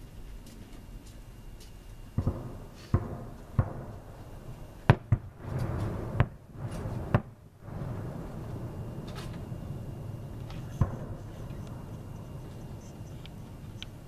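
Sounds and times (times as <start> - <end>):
fireworks bursting: 2.1 - 14.0.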